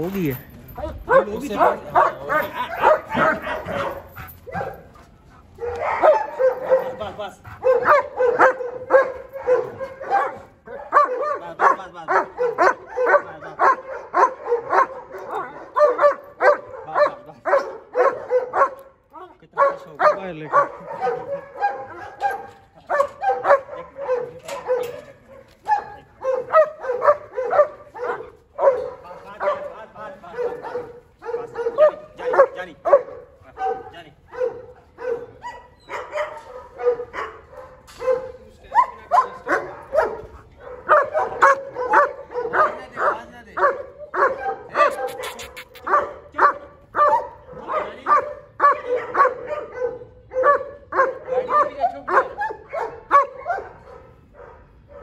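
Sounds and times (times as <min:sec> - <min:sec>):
dogs barking: 0:00.0 - 0:55.0.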